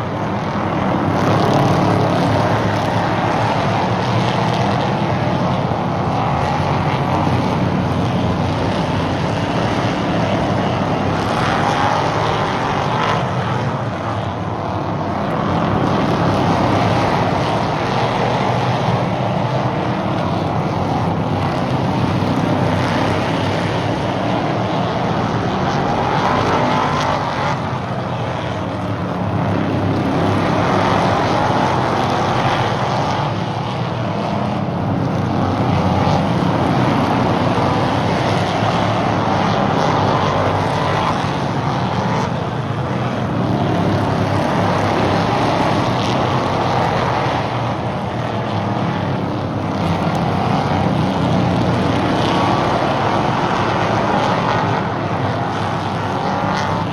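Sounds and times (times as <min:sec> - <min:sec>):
race car engines passing: 0:00.0 - 0:56.9.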